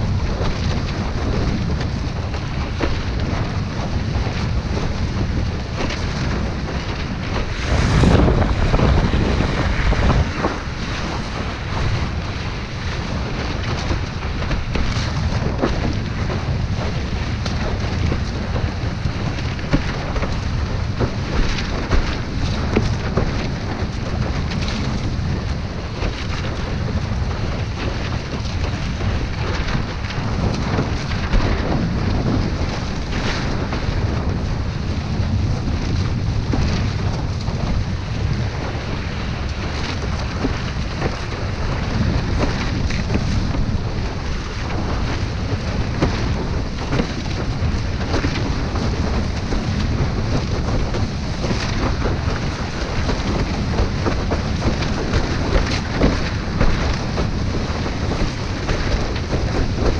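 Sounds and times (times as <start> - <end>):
rushing water: 0.0 - 59.9
water slapping board: 0.0 - 59.9
wind buffeting microphone: 0.0 - 59.9.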